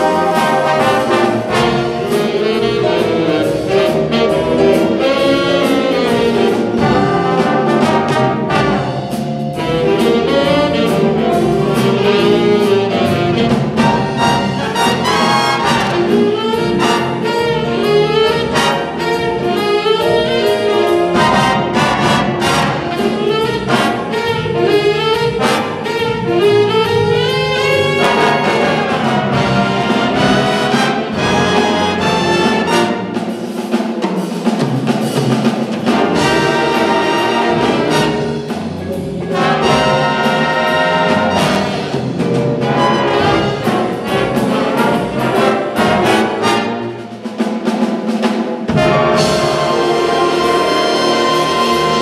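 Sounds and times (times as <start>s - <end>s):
big band jazz playing: 0.0s - 52.0s.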